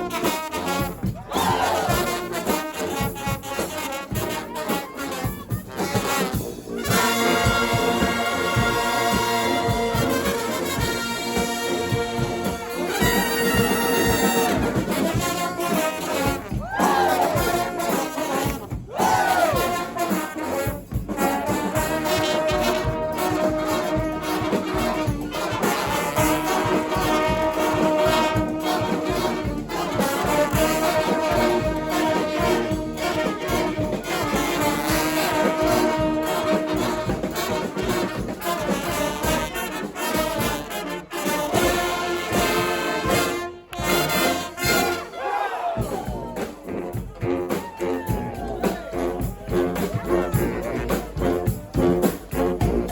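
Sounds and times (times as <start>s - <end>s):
brass band playing: 0.0s - 52.9s
sliding lead brass line: 0.0s - 52.9s.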